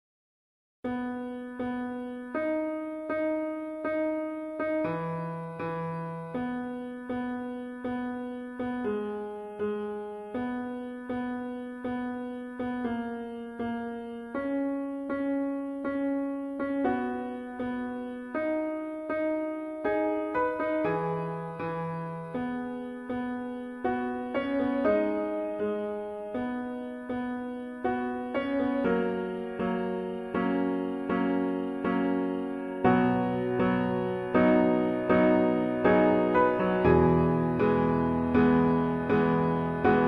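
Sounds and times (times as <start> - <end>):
solo piano chords: 0.8 - 40.0.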